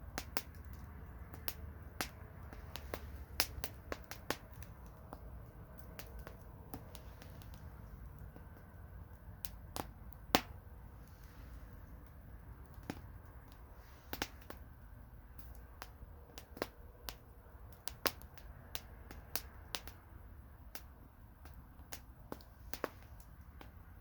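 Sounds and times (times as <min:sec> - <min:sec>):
burning wood crackling: 0:00.0 - 0:24.0
low rumble of flames: 0:00.0 - 0:24.0.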